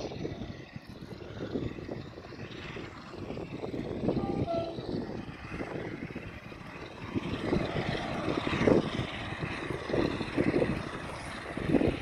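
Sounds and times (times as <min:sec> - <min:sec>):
diesel locomotive engine working hard: 0:00.0 - 0:12.0.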